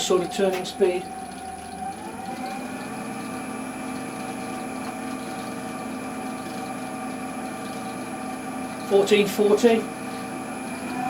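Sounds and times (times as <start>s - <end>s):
lathe motor humming and whining: 0.0s - 11.0s.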